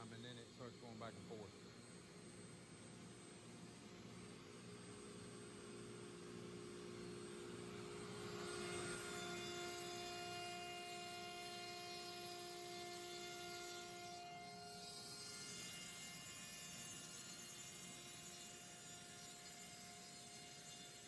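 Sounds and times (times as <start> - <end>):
router spindle whining: 3.0 - 21.0.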